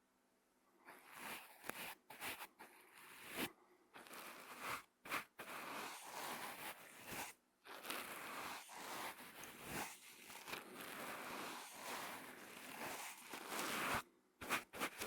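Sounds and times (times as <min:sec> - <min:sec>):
brush rubbing on microphone: 0:00.9 - 0:15.0.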